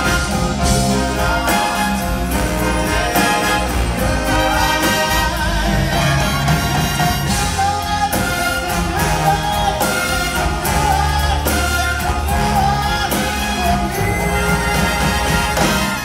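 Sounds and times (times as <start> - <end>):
big band playing: 0.0 - 16.0.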